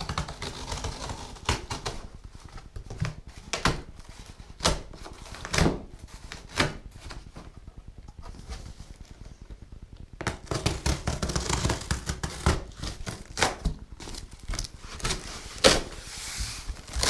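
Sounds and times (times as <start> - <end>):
cardboard rustling: 0.0 - 9.6, 10.2 - 17.0.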